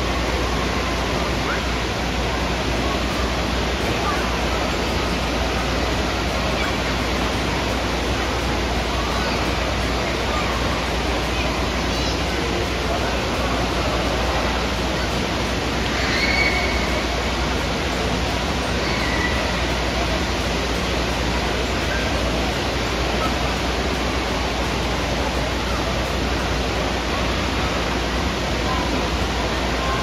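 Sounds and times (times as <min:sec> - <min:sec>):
faint children's voices: 0:00.0 - 0:30.0
wave pool water rushing: 0:00.0 - 0:30.0.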